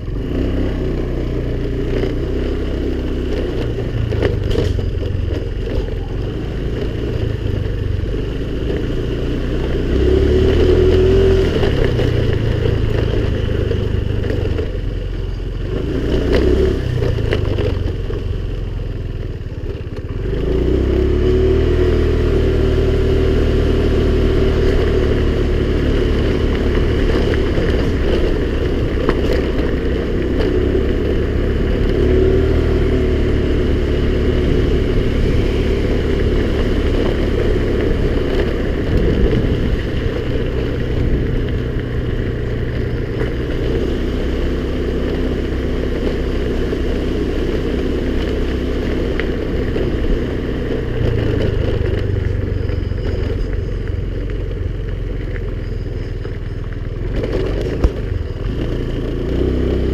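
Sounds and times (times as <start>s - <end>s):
scooter engine running: 0.0s - 59.9s.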